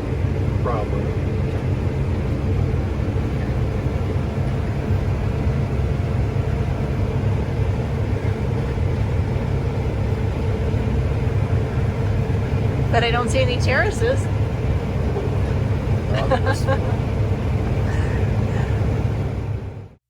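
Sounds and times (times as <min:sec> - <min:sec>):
heavy vehicle engine rumbling: 0:00.0 - 0:20.0.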